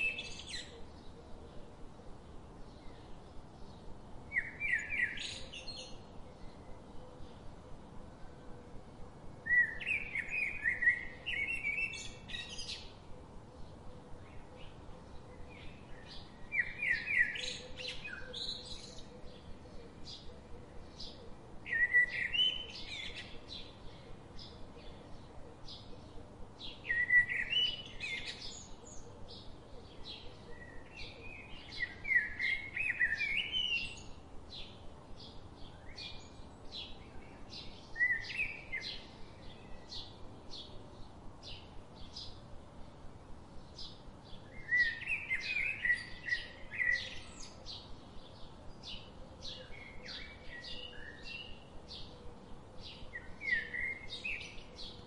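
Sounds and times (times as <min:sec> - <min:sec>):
birds warbling song phrases: 0:00.0 - 0:55.0.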